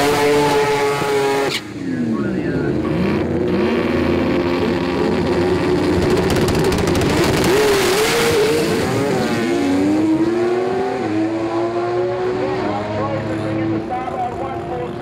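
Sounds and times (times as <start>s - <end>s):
racing engines revving: 0.0s - 15.0s
car accelerating away: 2.7s - 15.0s.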